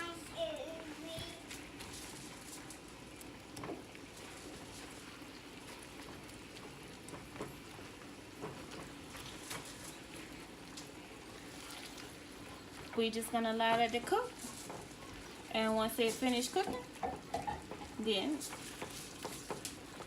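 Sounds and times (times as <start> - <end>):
meat and onions sizzling: 0.0 - 20.0.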